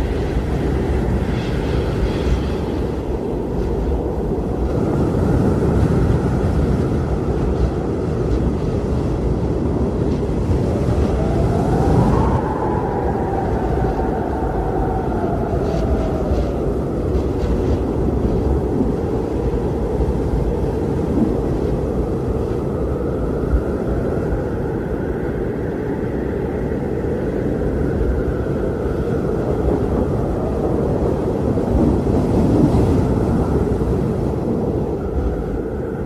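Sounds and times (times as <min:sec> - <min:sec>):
strong wind blowing: 0:00.0 - 0:36.0.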